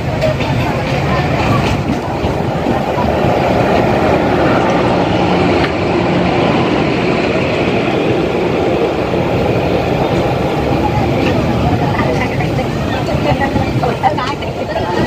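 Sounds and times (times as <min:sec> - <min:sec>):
passing train wheels rumbling: 0:00.0 - 0:15.0.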